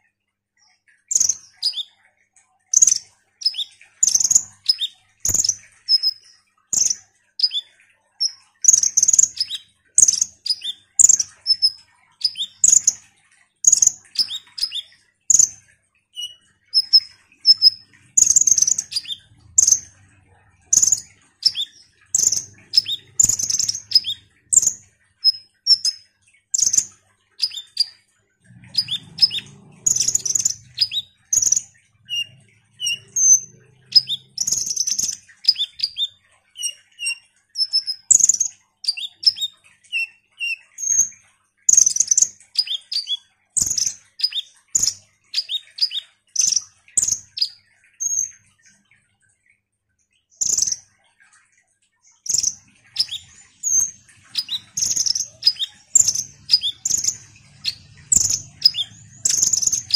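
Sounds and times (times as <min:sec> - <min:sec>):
sunbird singing high chirps: 0:01.1 - 0:01.9, 0:02.8 - 0:13.0, 0:13.7 - 0:15.5, 0:16.2 - 0:20.0, 0:20.7 - 0:26.0, 0:26.6 - 0:28.0, 0:28.6 - 0:41.1, 0:41.7 - 0:48.3, 0:52.2 - 0:59.9.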